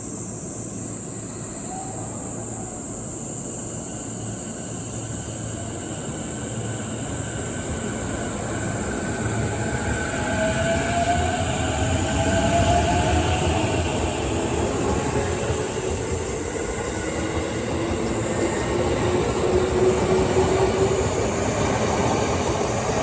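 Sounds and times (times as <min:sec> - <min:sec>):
cicadas droning: 0:00.0 - 0:23.0
train approaching with rumble: 0:00.0 - 0:23.0.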